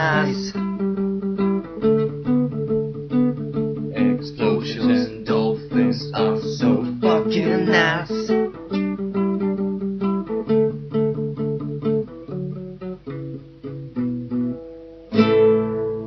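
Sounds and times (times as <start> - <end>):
guitar picking notes: 0.0 - 16.0.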